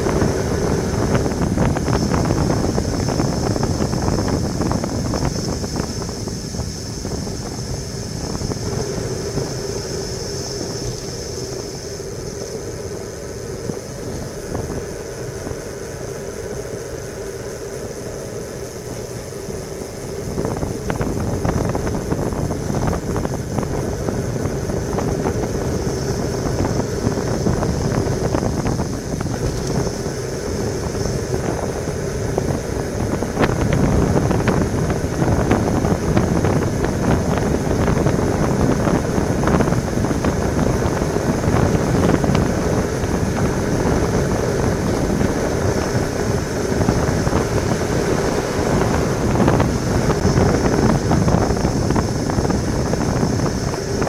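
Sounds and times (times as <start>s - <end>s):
bicycle tyre rumble on asphalt: 0.0s - 54.0s
steady hum: 0.0s - 54.0s
wind rushing over microphone: 0.0s - 54.0s.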